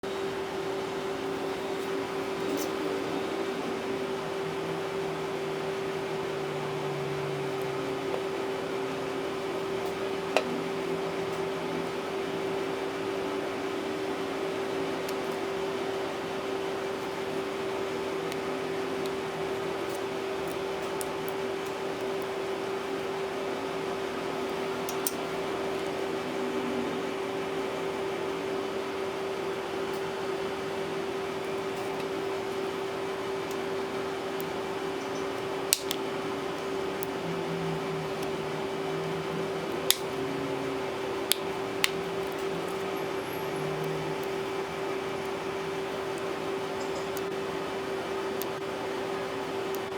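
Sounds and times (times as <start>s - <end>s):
machine hum: 0.0s - 49.9s.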